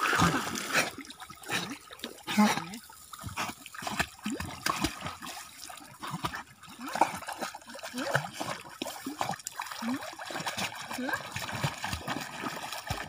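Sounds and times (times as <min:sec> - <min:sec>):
dogs splashing in water: 0:00.0 - 0:13.0.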